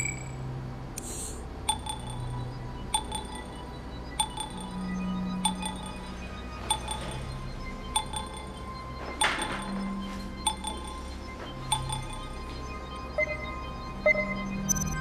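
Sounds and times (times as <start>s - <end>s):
low music drone: 0.0s - 15.0s.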